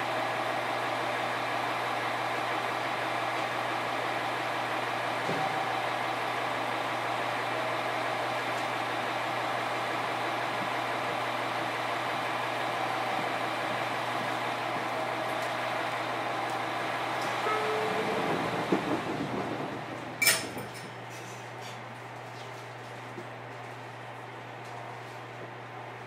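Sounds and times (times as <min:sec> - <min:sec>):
electric train interior noise: 0:00.0 - 0:26.0.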